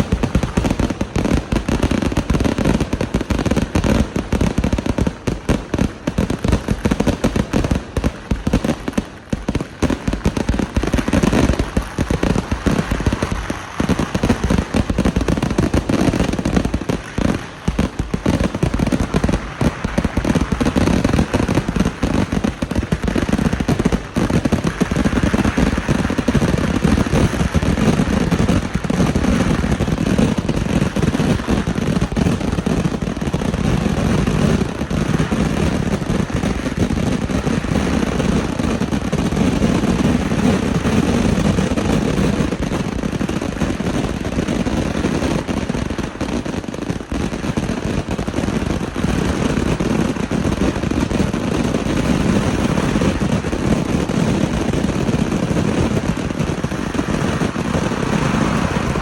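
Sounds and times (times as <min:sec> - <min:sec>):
firecrackers going off: 0:00.0 - 0:59.0.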